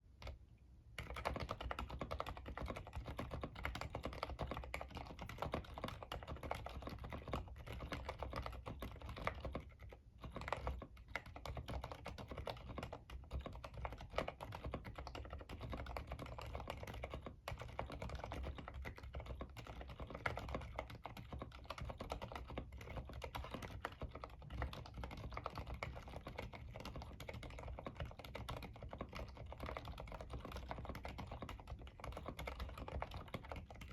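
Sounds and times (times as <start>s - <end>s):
fast typing on mechanical keyboard: 1.0s - 33.9s.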